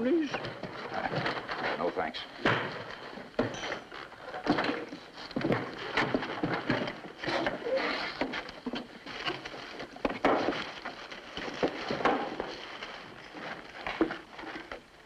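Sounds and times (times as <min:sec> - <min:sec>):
wooden barrels being moved: 0:00.0 - 0:15.0.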